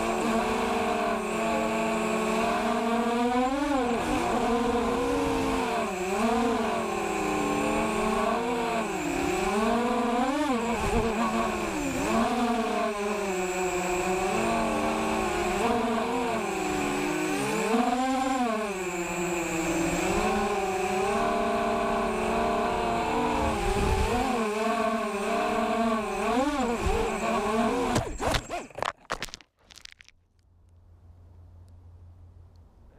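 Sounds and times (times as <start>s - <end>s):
quadcopter motors whining: 0.0s - 28.9s.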